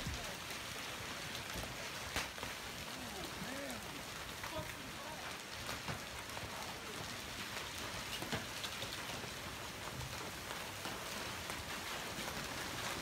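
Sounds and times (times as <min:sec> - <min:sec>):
hailstones ticking: 0:00.0 - 0:13.0
heavy rain hiss: 0:00.0 - 0:13.0.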